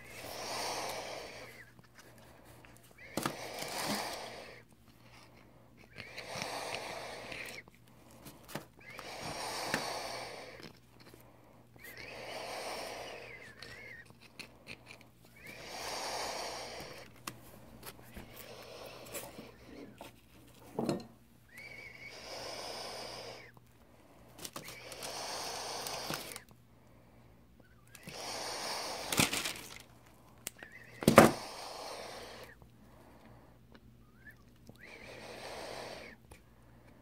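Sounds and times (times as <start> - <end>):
slow close breathing: 0.0 - 20.3, 20.9 - 37.0.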